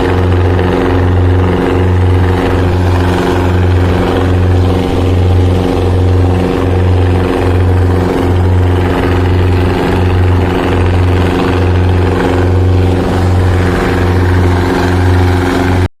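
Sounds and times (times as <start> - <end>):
motorboat engine throbbing: 0.0 - 15.9.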